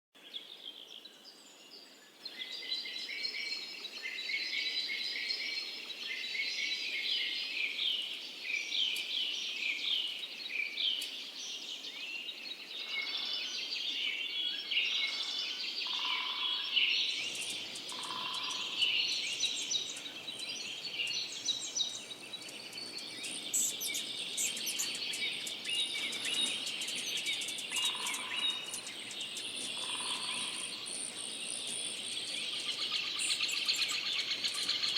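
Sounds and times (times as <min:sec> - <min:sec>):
songbird chirping and trilling: 0:00.2 - 0:34.9.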